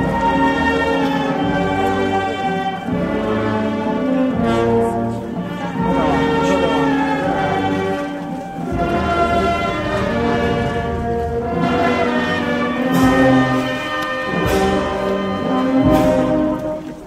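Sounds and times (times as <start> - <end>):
slow brass march music: 0.0 - 17.0.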